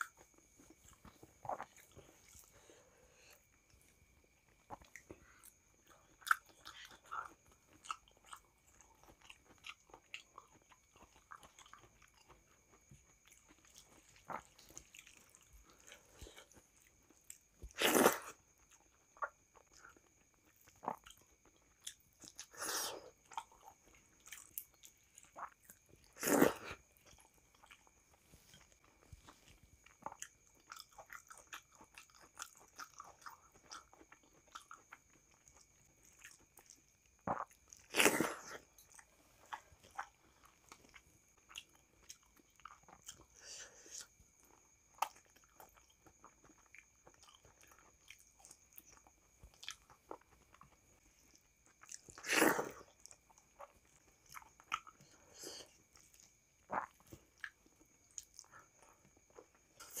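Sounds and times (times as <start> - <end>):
person chewing and biting food: 0.0 - 2.6, 4.6 - 50.8, 51.6 - 60.0.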